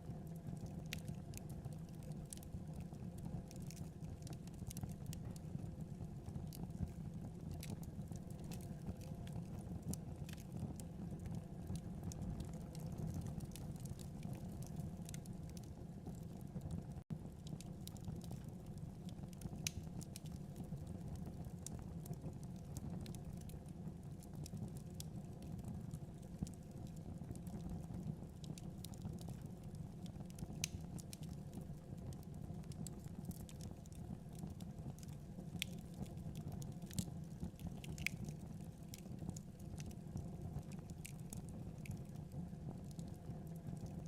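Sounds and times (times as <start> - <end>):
crackles and pops of burning wood: 0.0 - 44.0
wood fire burning: 0.0 - 44.0.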